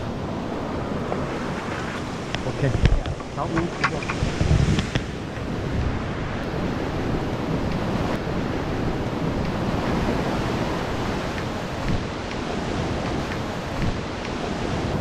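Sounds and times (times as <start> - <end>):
ocean surf breaking on beach: 0.0 - 15.0
wind on microphone: 0.0 - 15.0.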